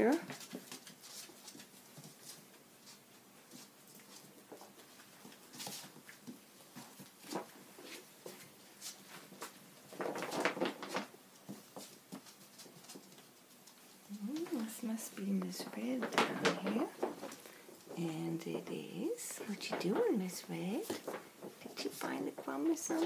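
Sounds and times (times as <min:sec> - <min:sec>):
puppies scuffling on tile floor: 0:00.0 - 0:23.0.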